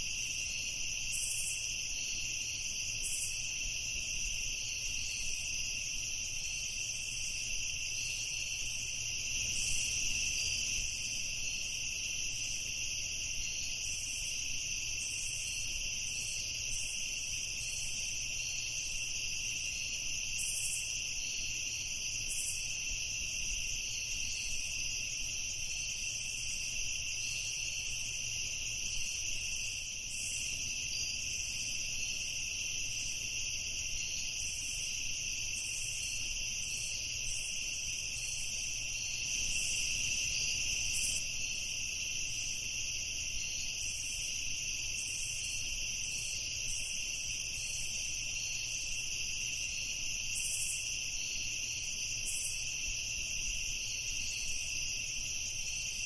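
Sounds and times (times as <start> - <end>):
high insect chirps: 0.0 - 56.0
insects trilling: 0.0 - 56.0.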